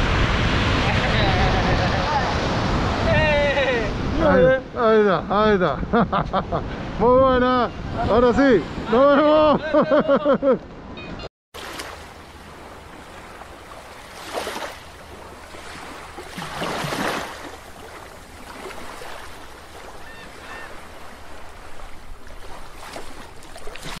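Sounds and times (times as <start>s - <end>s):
surf washing: 0.0s - 10.4s, 11.6s - 24.0s.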